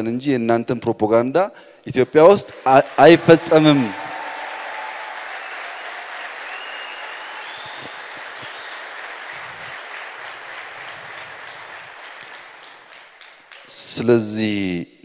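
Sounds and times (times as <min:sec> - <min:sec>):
audience applauding: 0:02.0 - 0:14.3.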